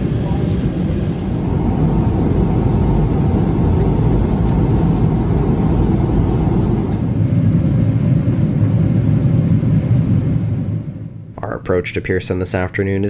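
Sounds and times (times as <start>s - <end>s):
airliner cabin rumble: 0.0s - 12.4s.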